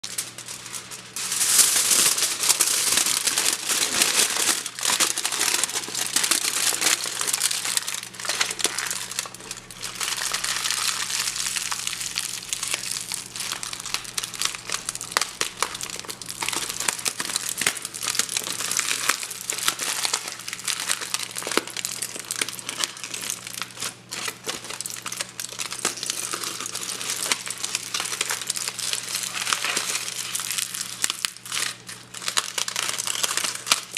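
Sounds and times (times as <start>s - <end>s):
crinkling material crackling: 0.0s - 33.9s.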